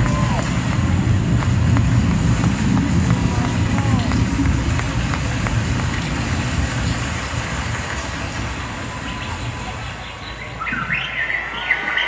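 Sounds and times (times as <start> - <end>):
crowd din with low rumble: 0.0 - 12.0.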